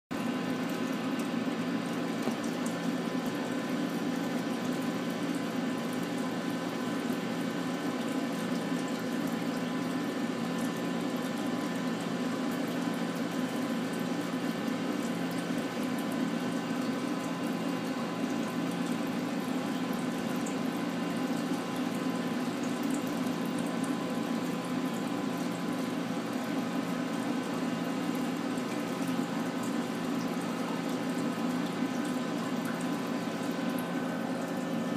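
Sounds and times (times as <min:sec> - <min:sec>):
circulating water: 0:00.1 - 0:34.9
water pump hum: 0:00.1 - 0:34.9.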